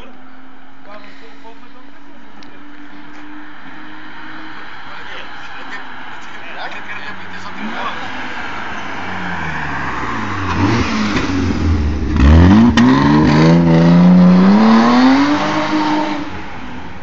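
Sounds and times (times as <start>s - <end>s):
car engine accelerating: 1.8s - 17.0s.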